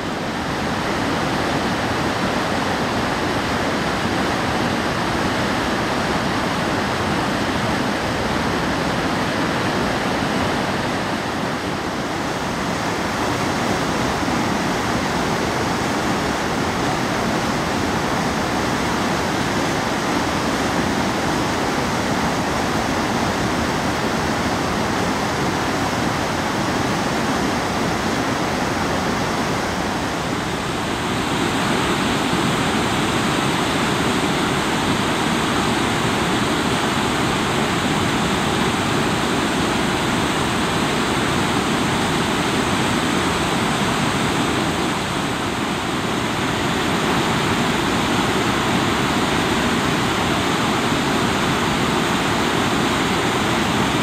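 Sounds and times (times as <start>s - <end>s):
river rapids rushing over boulders: 0.0s - 54.0s.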